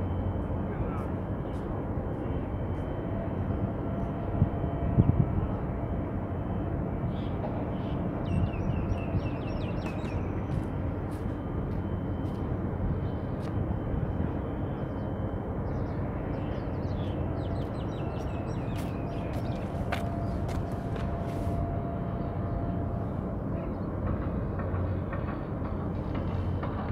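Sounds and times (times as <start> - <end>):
harbour ambience rumble and hiss: 0.0 - 26.9.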